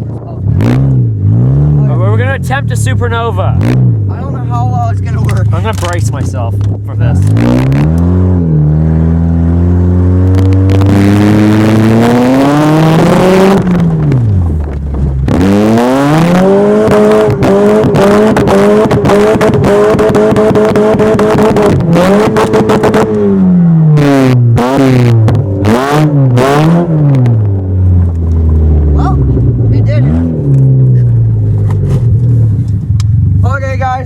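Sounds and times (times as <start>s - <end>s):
tires spinning: 0.0s - 33.6s
car engine revving hard: 0.4s - 32.7s.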